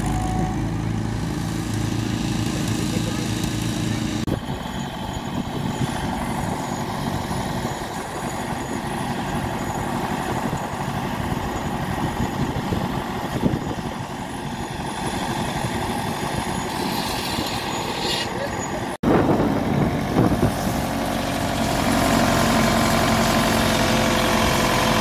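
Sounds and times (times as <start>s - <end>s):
tractor engine running: 0.0s - 17.9s, 18.5s - 25.0s.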